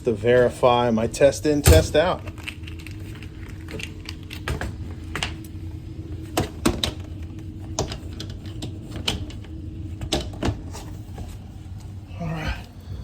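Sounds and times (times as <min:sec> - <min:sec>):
blower fan motor humming: 0:00.0 - 0:13.0.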